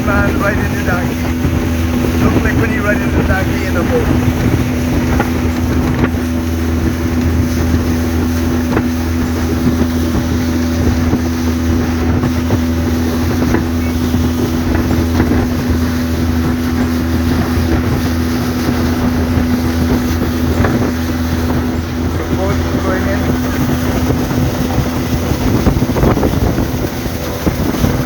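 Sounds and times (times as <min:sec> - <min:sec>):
motorboat engine humming: 0:00.0 - 0:28.0
wind buffeting microphone: 0:00.0 - 0:28.0.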